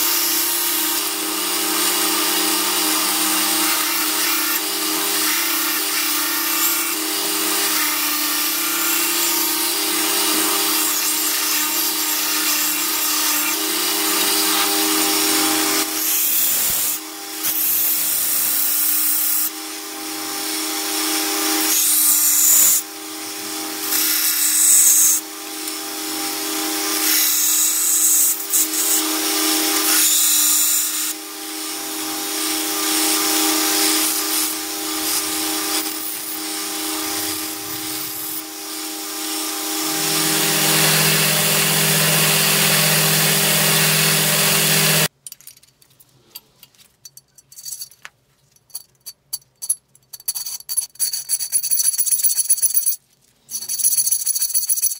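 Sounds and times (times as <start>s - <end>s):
belt grinder grinding steel blade: 0.0s - 45.1s.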